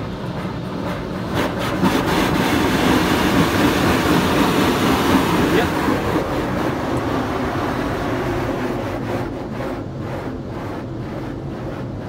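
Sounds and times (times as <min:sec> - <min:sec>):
water jets spraying on car: 0:00.0 - 0:12.0.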